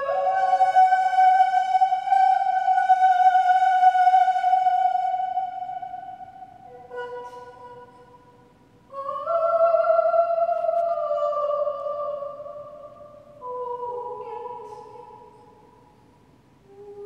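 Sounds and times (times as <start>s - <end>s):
woman singing operatic notes: 0.0s - 15.7s, 16.7s - 17.0s.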